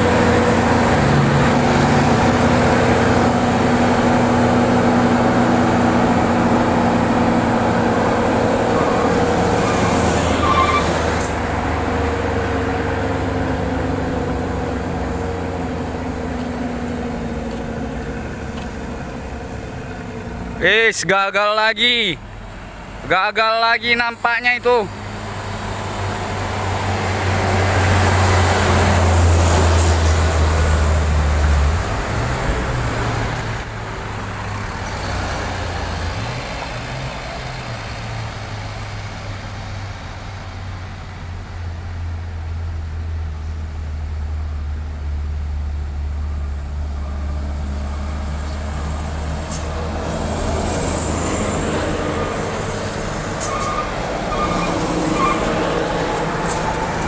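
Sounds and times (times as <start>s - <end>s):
heavy diesel trucks passing: 0.0s - 57.0s.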